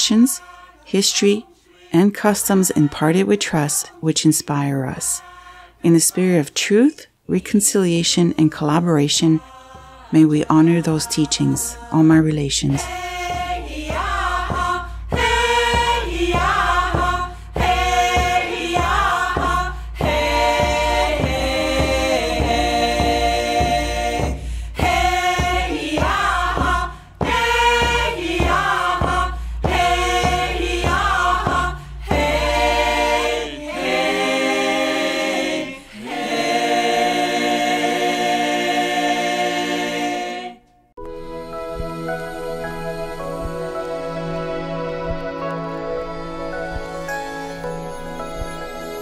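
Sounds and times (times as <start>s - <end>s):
choir singing: 0.0s - 6.4s, 8.7s - 49.0s.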